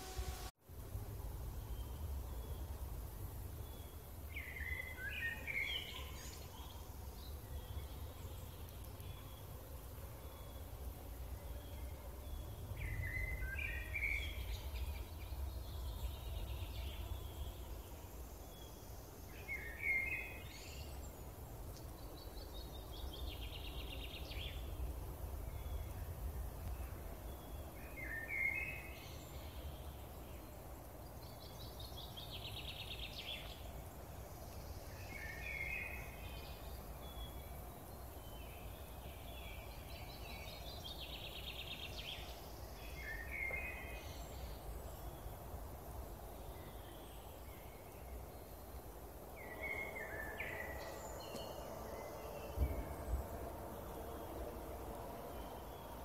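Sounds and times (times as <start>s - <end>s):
songbirds singing with trills: 1.3s - 56.0s.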